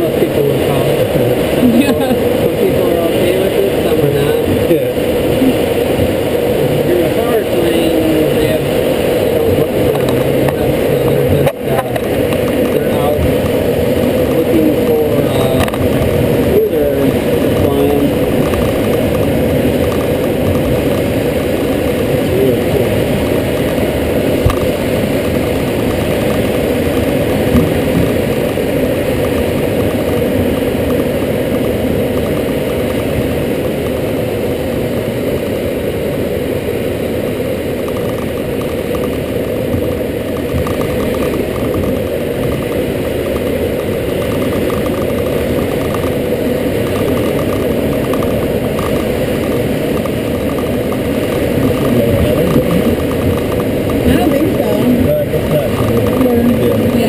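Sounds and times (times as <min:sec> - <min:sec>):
rushing airflow over glider: 0:00.0 - 0:57.0.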